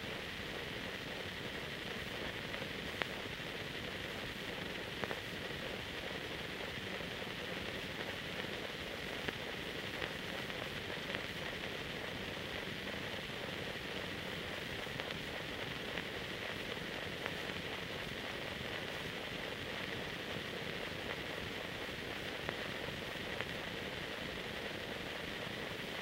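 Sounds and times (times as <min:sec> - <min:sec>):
faint crackle: 0:00.0 - 0:26.0
film transfer hiss: 0:00.0 - 0:26.0.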